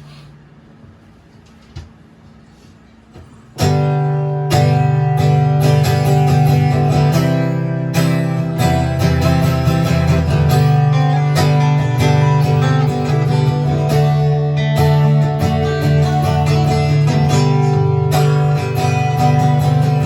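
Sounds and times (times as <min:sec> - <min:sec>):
acoustic guitar strumming: 0:03.3 - 0:20.0.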